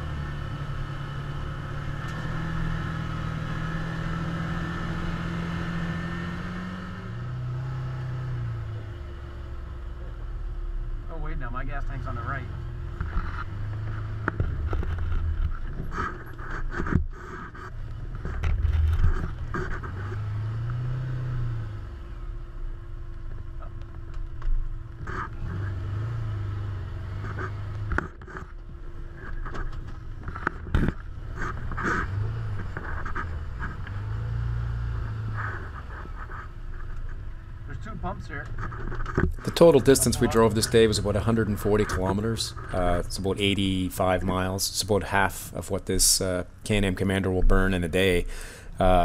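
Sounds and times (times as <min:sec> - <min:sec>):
vehicle engine low rumble: 0:00.0 - 0:49.0.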